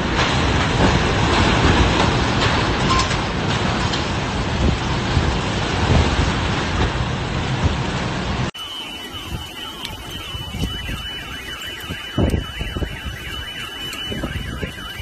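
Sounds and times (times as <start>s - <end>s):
driving rain: 0.0s - 15.0s
strong wind: 0.0s - 15.0s.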